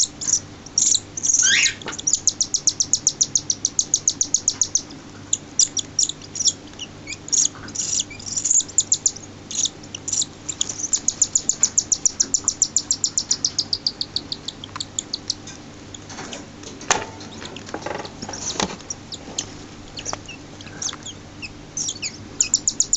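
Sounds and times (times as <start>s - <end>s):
chicks chirping: 0.0s - 16.6s, 17.2s - 22.9s.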